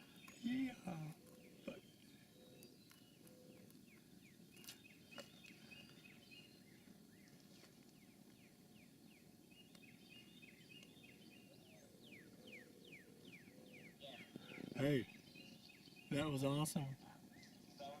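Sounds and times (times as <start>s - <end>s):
low background hiss: 0.0s - 18.0s
small birds chirping: 0.0s - 18.0s.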